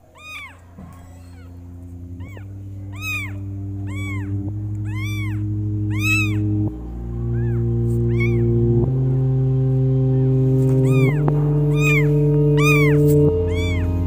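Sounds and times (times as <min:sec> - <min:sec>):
kitten meowing: 0:00.0 - 0:08.7, 0:10.1 - 0:14.0
background music of held chords: 0:00.2 - 0:14.0.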